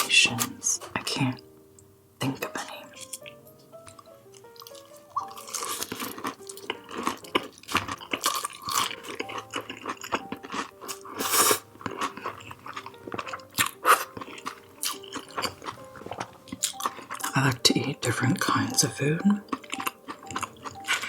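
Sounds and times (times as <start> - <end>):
close chewing with crunches: 2.9 - 21.0.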